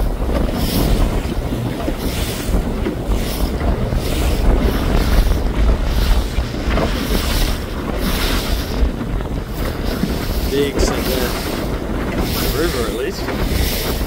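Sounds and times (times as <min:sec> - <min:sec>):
waves splashing against boat hull: 0:00.0 - 0:14.0
wind buffeting microphone: 0:00.0 - 0:14.0.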